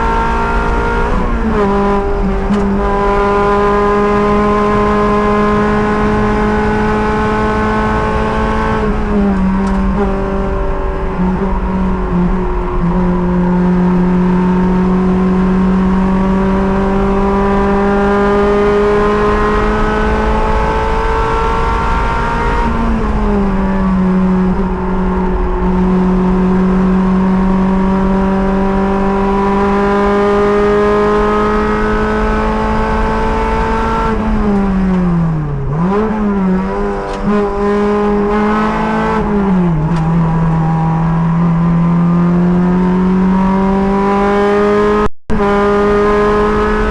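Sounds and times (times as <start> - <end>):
race car engine revving: 0.0 - 46.9.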